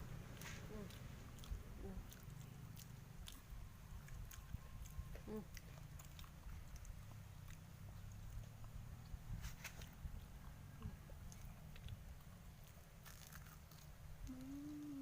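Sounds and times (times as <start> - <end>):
crisp food being chewed: 0.3 - 8.8, 9.6 - 15.0.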